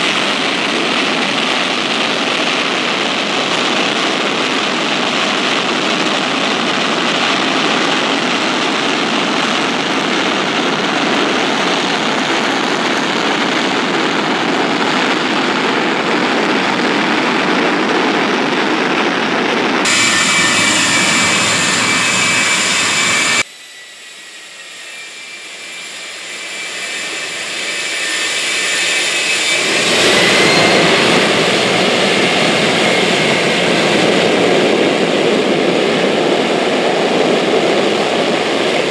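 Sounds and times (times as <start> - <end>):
jet engine roaring: 0.0 - 38.9.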